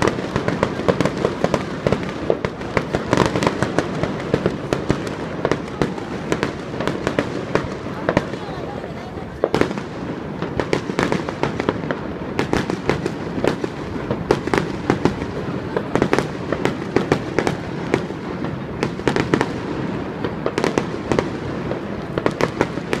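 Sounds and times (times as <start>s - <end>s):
continuous background noise: 0.0s - 23.0s
fireworks bursting: 0.0s - 23.0s.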